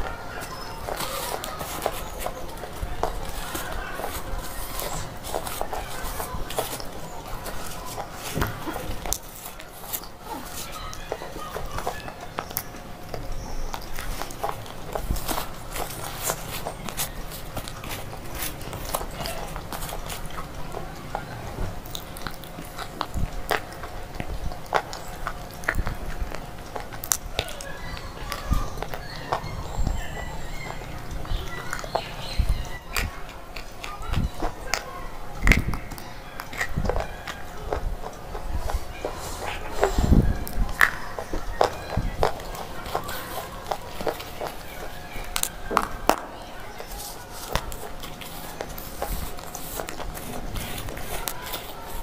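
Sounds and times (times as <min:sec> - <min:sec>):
slate pieces crunching and crackling: 0:00.0 - 0:52.0.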